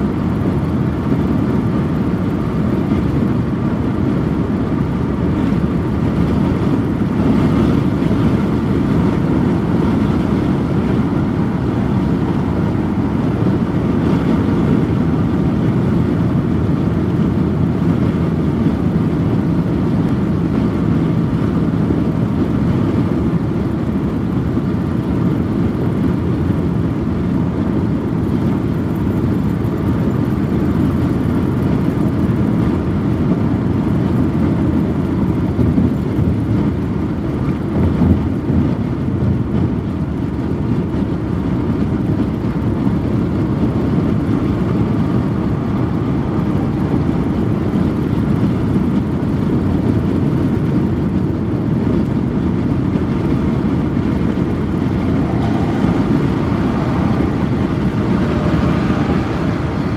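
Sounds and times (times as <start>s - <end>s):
road and tyre rumble in car: 0.0s - 59.9s.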